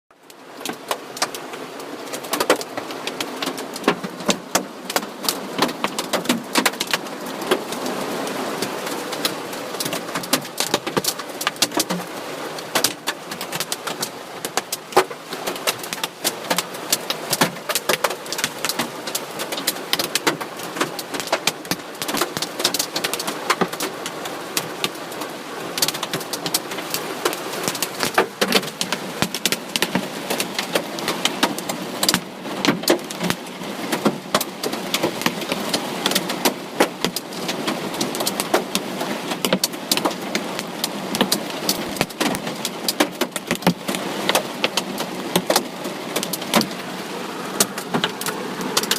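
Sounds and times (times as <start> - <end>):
hail striking vehicle bodywork: 2.1 - 48.9.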